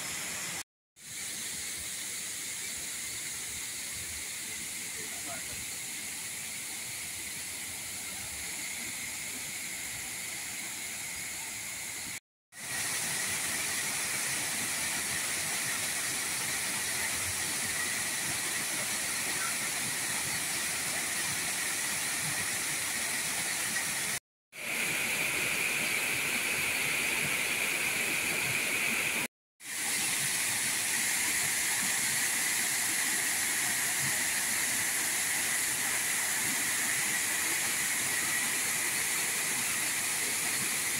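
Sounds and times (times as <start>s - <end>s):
water rushing over weir: 7.1s - 40.9s.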